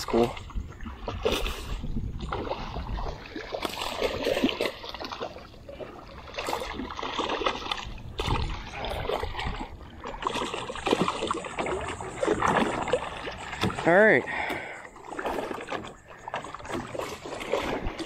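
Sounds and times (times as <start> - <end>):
fish thrashing and splashing: 0.0 - 18.0.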